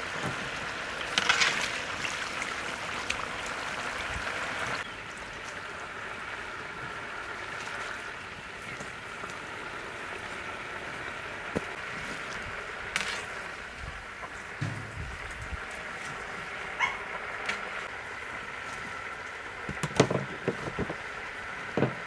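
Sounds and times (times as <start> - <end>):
liquid boiling in a wok: 0.0 - 22.0.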